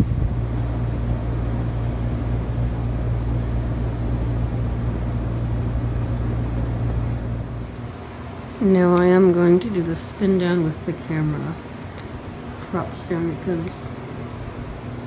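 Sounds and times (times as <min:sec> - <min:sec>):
ceiling fan humming: 0:00.0 - 0:15.0.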